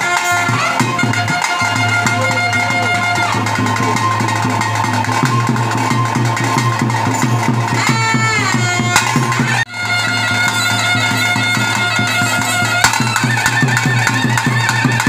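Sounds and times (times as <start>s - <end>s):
reed wind instrument melody: 0.0s - 15.0s
steady drumbeats: 0.0s - 15.0s.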